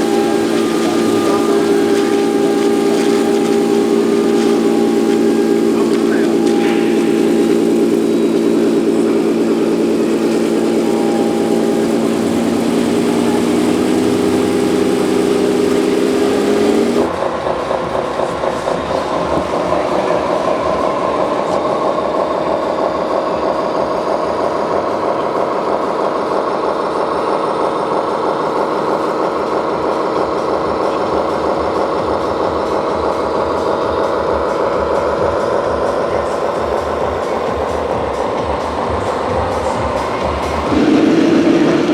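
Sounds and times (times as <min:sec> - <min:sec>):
high-pitched steady hum: 0:00.0 - 0:41.9
model vehicle engine drone: 0:00.0 - 0:41.9.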